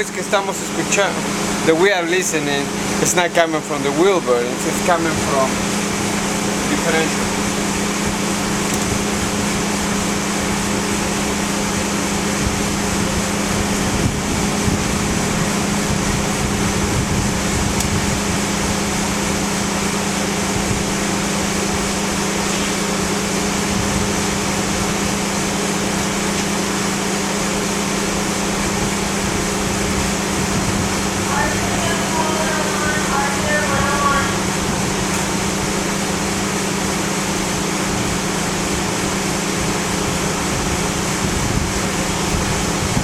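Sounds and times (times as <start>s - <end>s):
low vehicle hum: 0.0s - 43.0s
tire and road rush: 0.0s - 43.0s.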